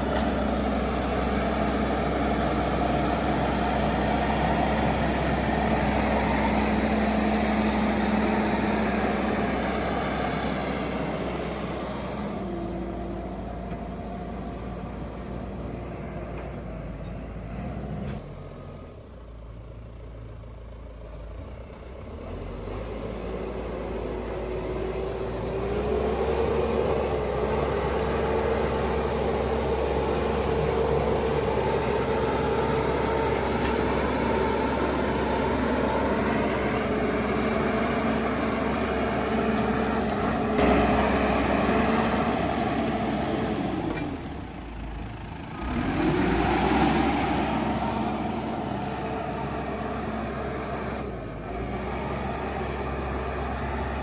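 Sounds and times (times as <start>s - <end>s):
diesel engine of heavy machine: 0.0s - 54.0s.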